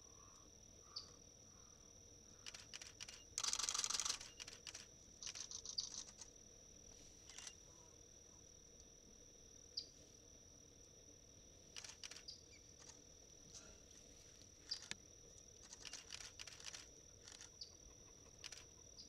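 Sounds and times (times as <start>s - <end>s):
insect droning: 0.0s - 19.0s.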